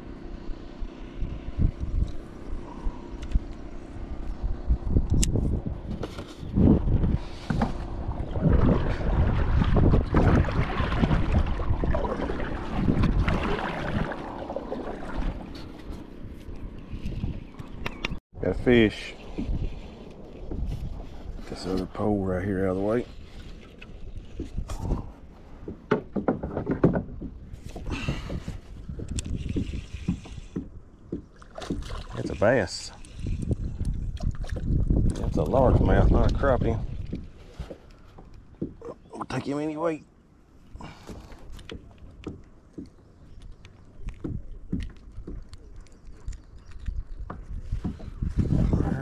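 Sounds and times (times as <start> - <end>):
wind buffeting microphone: 1.2 - 38.9, 43.0 - 49.0
paddle pulling through water: 5.6 - 49.0.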